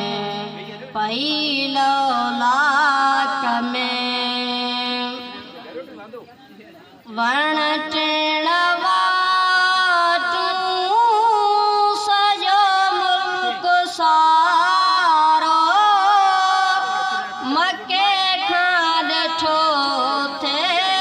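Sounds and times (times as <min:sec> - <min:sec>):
boy singing through microphone: 0:00.0 - 0:05.8, 0:07.0 - 0:21.0.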